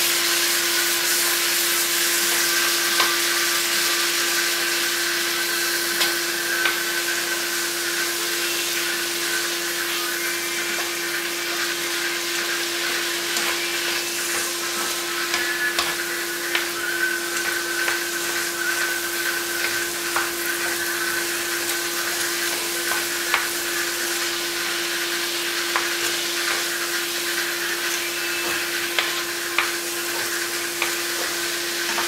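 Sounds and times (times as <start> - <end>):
food sizzling in a wok: 0.0 - 32.0.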